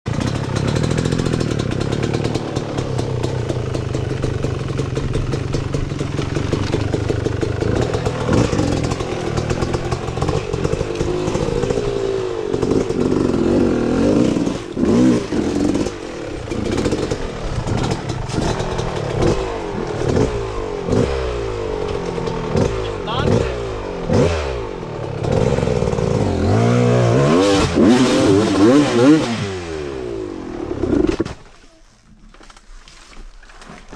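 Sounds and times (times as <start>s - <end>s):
dirt bike engine revving: 0.1s - 31.4s.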